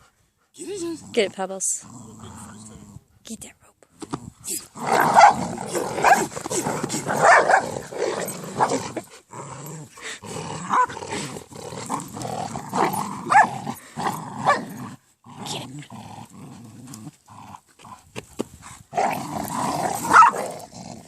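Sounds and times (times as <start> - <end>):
dogs play-growling: 0.4 - 3.2, 4.0 - 21.0.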